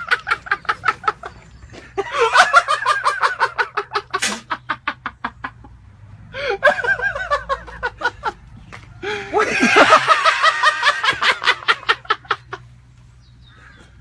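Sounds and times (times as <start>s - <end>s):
person laughing hard: 0.0s - 5.6s, 6.4s - 8.4s, 9.0s - 12.6s.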